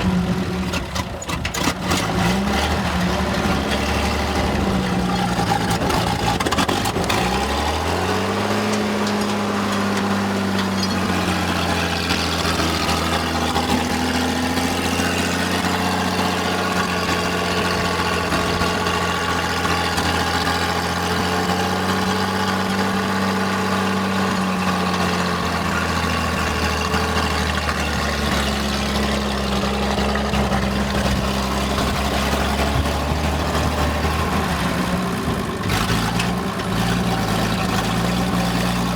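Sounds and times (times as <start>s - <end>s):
skidder engine idling: 0.0s - 38.9s.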